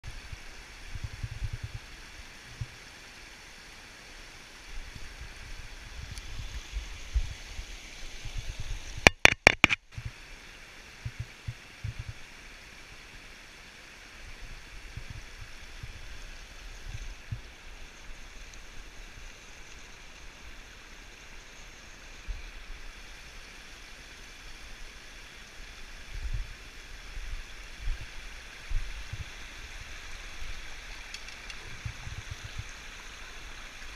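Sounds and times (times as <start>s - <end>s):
river water rushing through grates: 0.0s - 33.9s.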